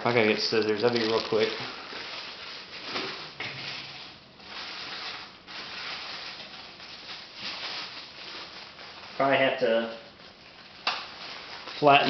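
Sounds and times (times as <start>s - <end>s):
rustling and handling noises: 0.0s - 12.0s.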